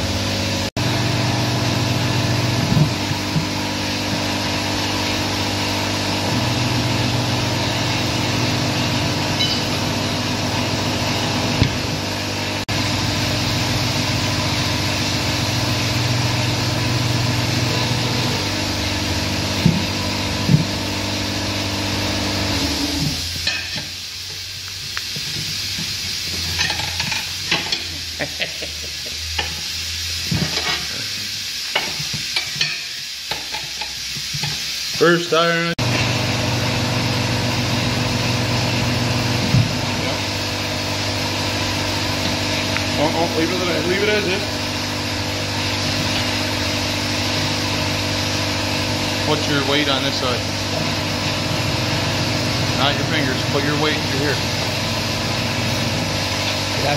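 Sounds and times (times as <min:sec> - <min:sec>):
tire changing machine humming: 0:00.0 - 0:56.9.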